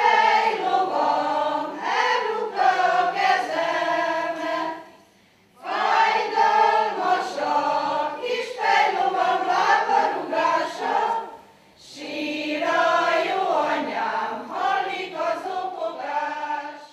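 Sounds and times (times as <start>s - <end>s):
women's choir singing unaccompanied: 0.0s - 5.0s, 5.6s - 16.9s.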